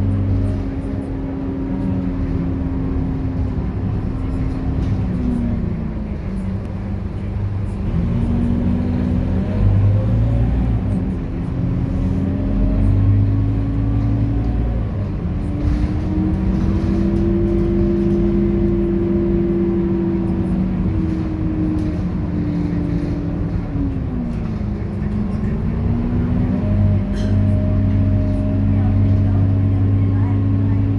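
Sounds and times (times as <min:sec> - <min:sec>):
diesel bus engine rumble: 0:00.0 - 0:30.9.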